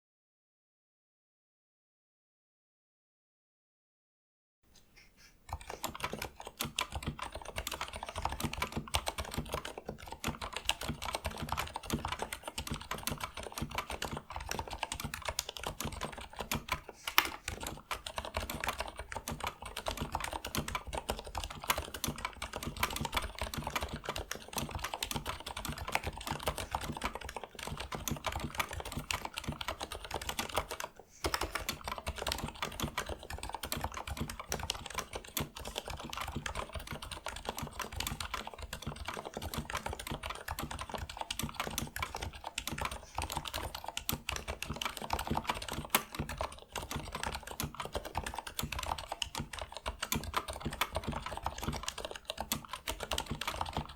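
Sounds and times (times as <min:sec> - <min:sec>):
fast mechanical keyboard typing: 0:05.5 - 0:53.9.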